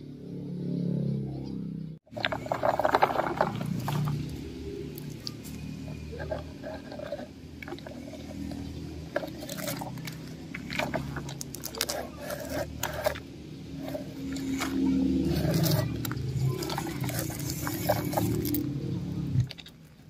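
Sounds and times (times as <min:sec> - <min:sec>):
toy truck wheels scraping on dirt: 0:02.1 - 0:20.0.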